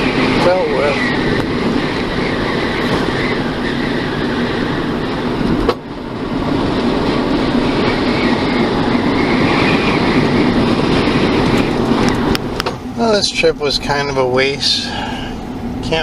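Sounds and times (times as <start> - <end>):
road and tyre noise in car: 0.0 - 16.0.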